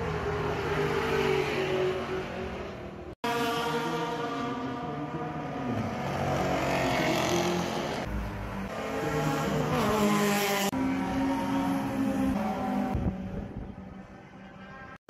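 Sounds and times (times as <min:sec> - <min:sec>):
race car engines passing: 0:00.0 - 0:14.2.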